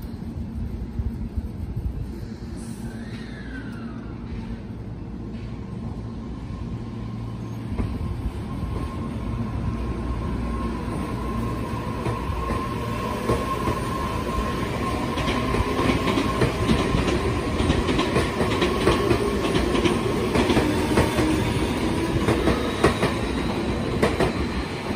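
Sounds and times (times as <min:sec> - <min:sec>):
electric train rumbling: 0:00.0 - 0:24.9.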